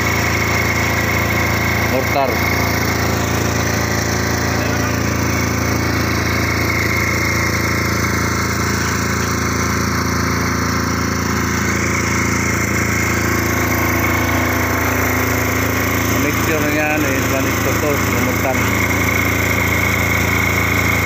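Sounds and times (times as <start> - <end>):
portable generator engine running: 0.0 - 21.0.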